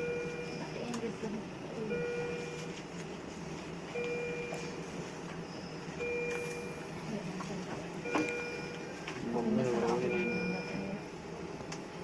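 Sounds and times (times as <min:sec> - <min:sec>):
medical alarm beeping: 0:00.0 - 0:02.8, 0:03.9 - 0:11.5
low machine hum: 0:00.0 - 0:12.0.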